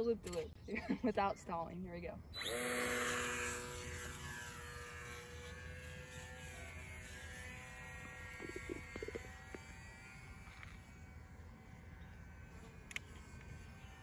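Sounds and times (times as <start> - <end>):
rc plane motor buzzing: 2.4 - 14.0.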